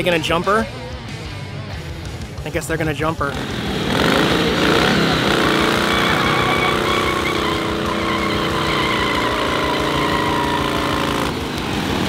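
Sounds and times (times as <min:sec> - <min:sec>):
motorcycle engine running: 0:01.0 - 0:12.0.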